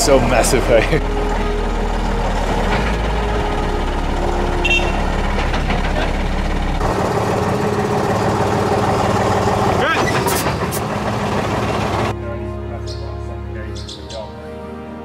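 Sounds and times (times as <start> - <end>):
truck engine rumbling: 0.0 - 14.6.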